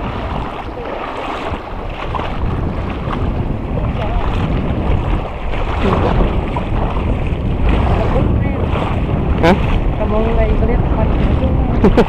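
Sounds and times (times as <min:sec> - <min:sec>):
small waves lapping: 0:00.0 - 0:12.0
wind rumbling on microphone: 0:00.0 - 0:12.0.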